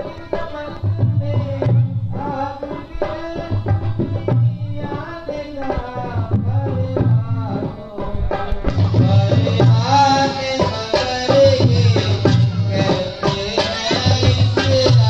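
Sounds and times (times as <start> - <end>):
tabla drumming: 0.0 - 15.0.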